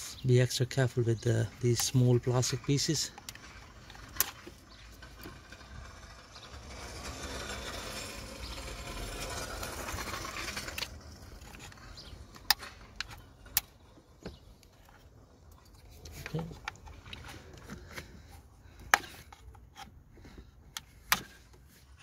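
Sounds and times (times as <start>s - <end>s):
plastic tool scraping plastic: 1.4s - 22.0s.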